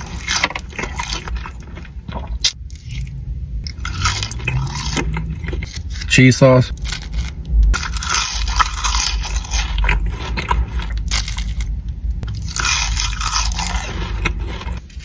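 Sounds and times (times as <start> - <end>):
chewing crunchy food: 0.0 - 6.1, 6.7 - 15.0.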